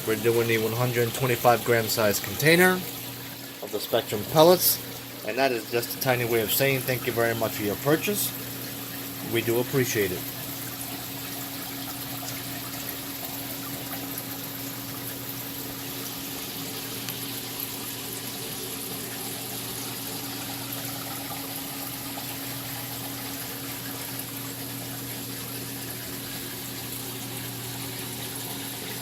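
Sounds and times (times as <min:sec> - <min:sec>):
pump hum: 0:00.0 - 0:29.0
water trickling and splashing: 0:00.0 - 0:29.0.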